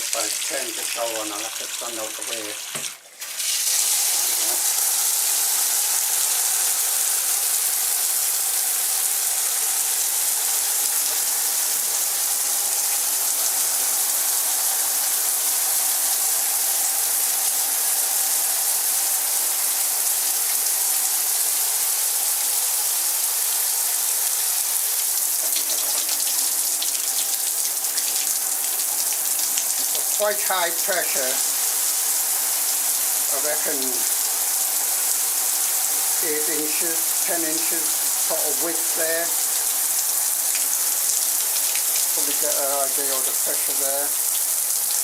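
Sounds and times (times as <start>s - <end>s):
shower head spraying water: 0.0s - 45.0s.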